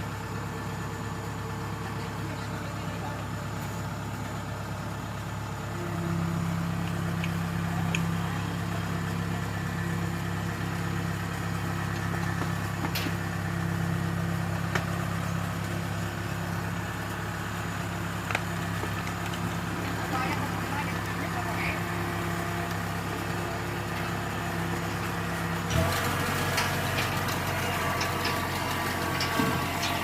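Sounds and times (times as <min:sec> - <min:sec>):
large engine humming: 0:00.0 - 0:30.0.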